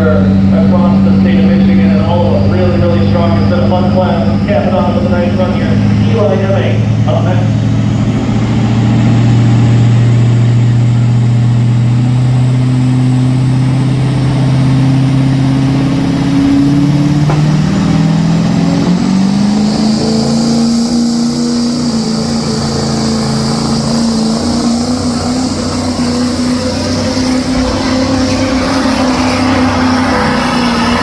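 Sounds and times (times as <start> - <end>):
truck engine running under load: 0.0 - 31.0.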